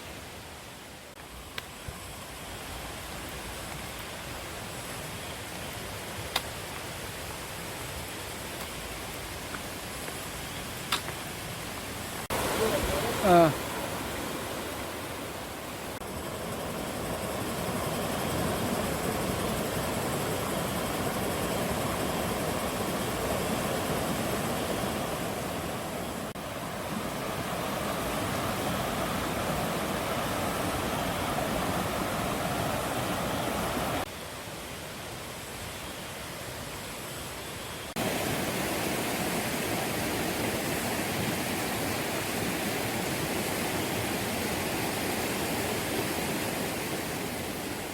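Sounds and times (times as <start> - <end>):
stream rushing over rocks: 0.0 - 35.4, 37.9 - 47.9.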